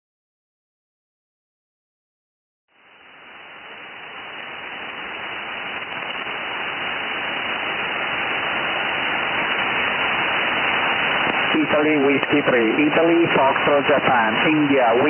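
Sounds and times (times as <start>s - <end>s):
radio static hiss: 2.7s - 15.0s.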